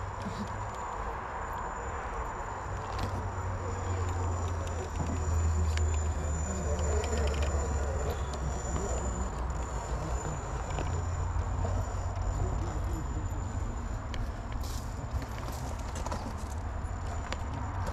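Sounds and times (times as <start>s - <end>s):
toy car motor humming and whining: 0.0s - 17.9s.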